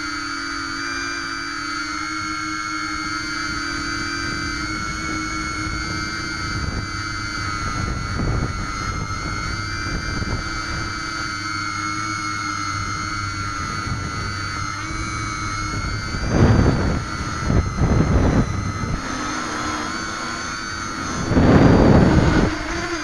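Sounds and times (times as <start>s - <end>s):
quadcopter motors whining: 0.0s - 23.0s
low rumbling gusts: 3.0s - 23.0s.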